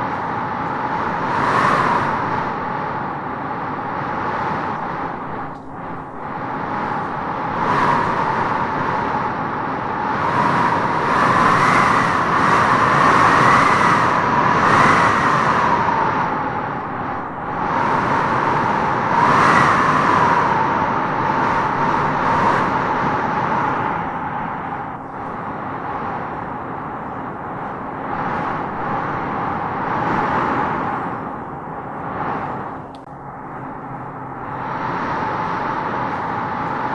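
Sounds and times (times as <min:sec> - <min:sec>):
gusty wind howling: 0:00.0 - 0:36.9.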